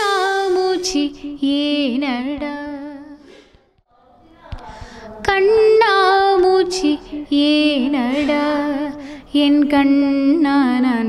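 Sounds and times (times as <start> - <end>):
woman singing: 0.0 - 3.2, 5.2 - 11.0.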